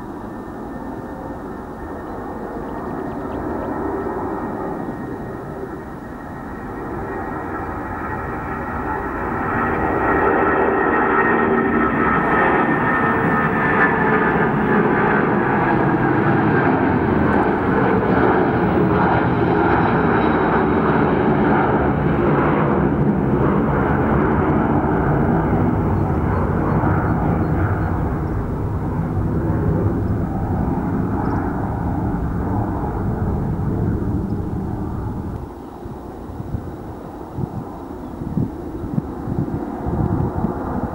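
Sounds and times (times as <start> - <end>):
jet engines at takeoff: 0.0 - 40.9.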